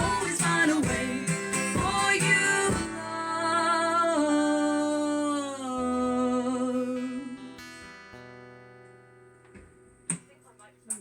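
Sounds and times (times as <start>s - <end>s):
acoustic guitar chord ringing: 0.0s - 10.7s.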